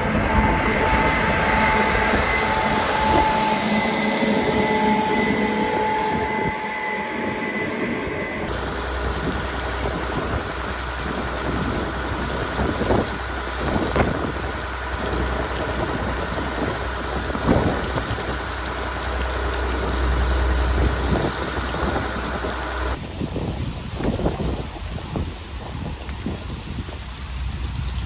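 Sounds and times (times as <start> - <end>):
wind buffeting microphone: 0.0 - 7.4, 8.4 - 28.0.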